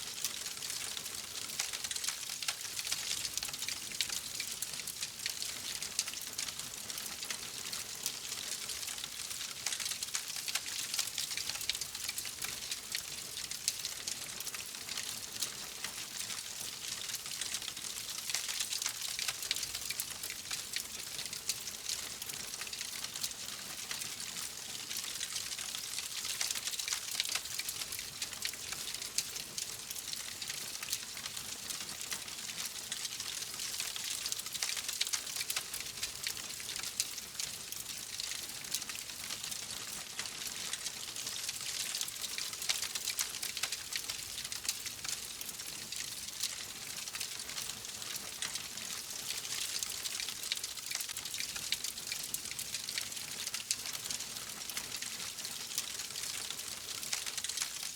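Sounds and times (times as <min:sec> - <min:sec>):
fireplace fire crackling: 0:00.0 - 0:57.9.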